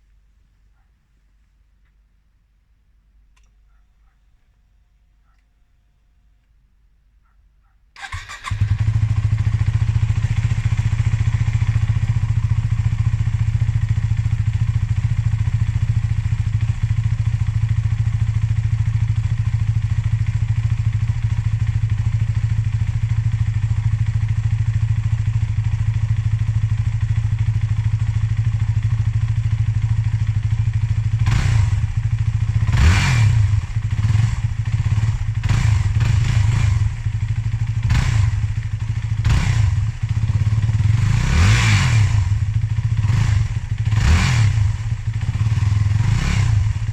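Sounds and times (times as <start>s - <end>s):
motorcycle engine idling and revving: 8.0s - 46.9s.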